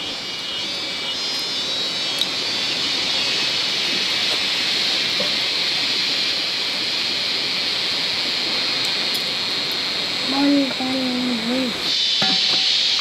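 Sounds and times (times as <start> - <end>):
steady rain falling: 2.2 - 13.0.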